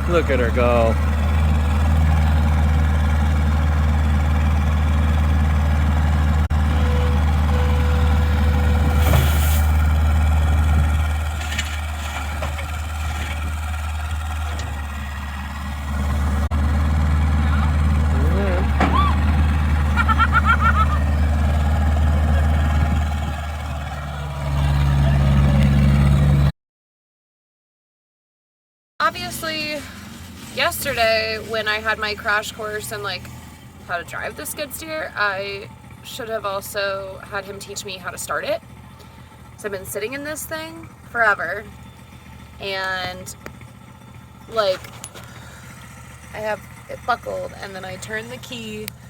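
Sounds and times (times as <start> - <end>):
skid steer engine droning: 0.0 - 26.5, 29.1 - 49.0.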